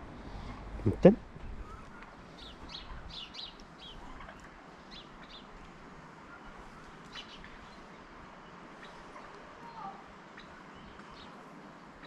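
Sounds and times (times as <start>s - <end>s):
small birds chirping: 0.3s - 12.0s.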